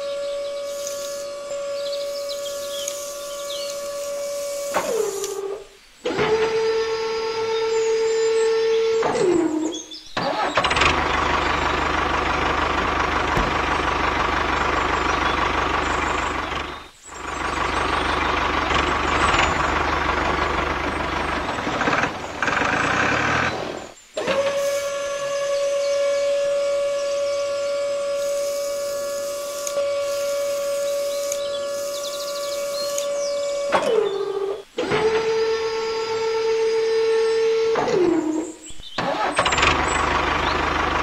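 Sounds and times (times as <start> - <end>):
loud engine-like running: 0.0 - 9.6, 10.2 - 41.0
small electric motor whining: 0.0 - 38.6.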